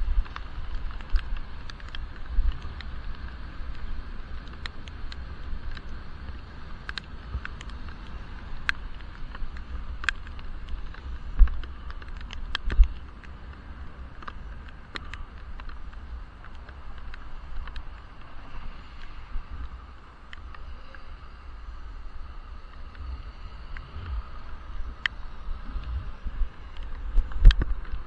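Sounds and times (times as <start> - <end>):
muffled wind: 0.0 - 28.0
road rumble: 0.0 - 28.0.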